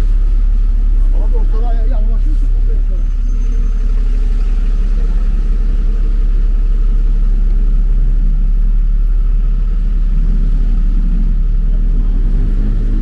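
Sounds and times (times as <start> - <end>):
cars passing with low rumble: 0.0 - 13.0.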